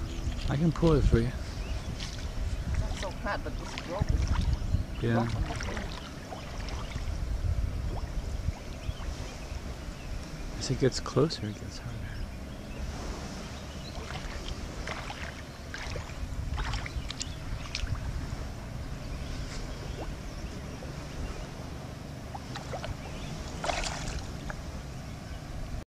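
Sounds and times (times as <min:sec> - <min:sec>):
wind on microphone: 0:00.0 - 0:25.8
shallow water splashing: 0:01.6 - 0:11.2, 0:12.7 - 0:25.2.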